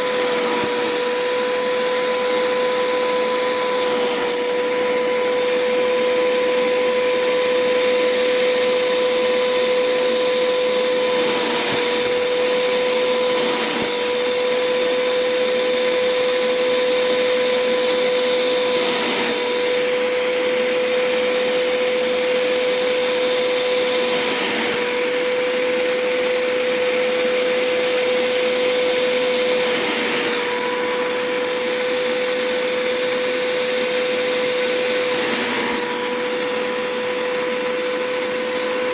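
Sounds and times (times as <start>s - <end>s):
carpet cleaner motor whine: 0.0s - 38.9s.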